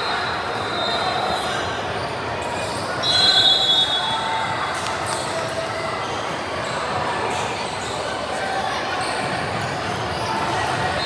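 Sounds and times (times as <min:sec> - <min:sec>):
crowd chatter in a gym: 0:00.0 - 0:11.0.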